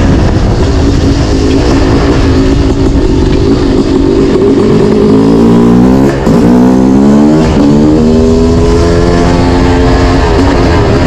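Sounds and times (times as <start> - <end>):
two-stroke engine accelerating: 0.0 - 11.0.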